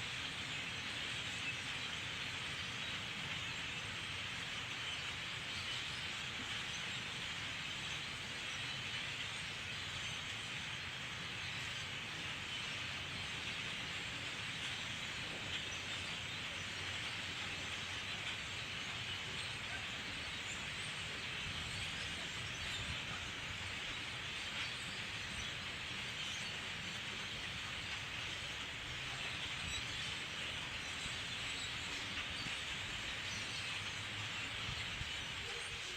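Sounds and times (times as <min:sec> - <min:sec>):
huge flock of birds calling: 0:00.0 - 0:35.9.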